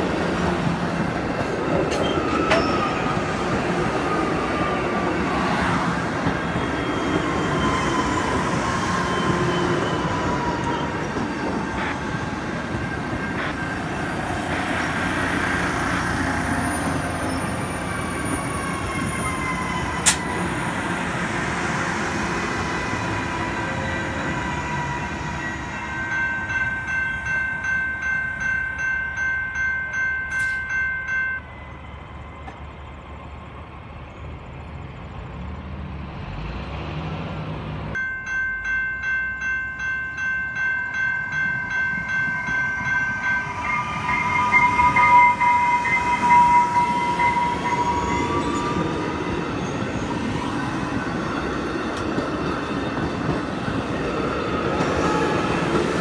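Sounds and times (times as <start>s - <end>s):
crossing bell ringing: 1.8s - 20.5s, 22.9s - 32.5s, 38.0s - 56.0s.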